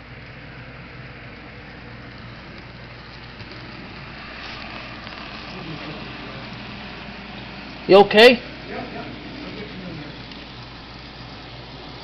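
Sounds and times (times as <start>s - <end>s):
model train motor hum: 0.0s - 12.0s
wheels rolling on rails: 0.0s - 12.0s.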